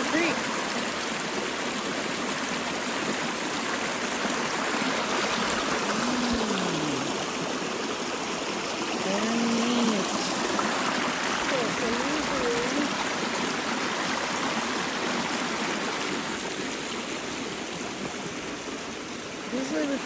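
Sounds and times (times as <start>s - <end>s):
creek water flowing over rocks: 0.0s - 20.0s.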